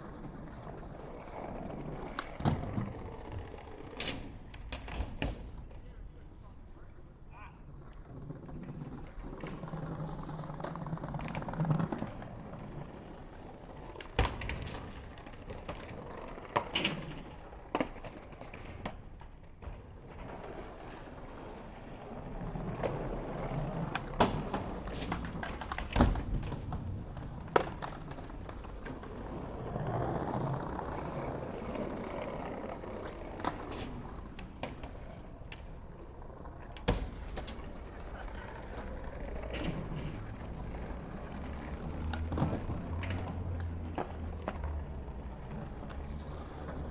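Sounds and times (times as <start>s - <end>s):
skateboard striking ground: 0.0s - 6.0s, 7.7s - 46.9s
skateboard wheels rolling: 0.0s - 46.9s.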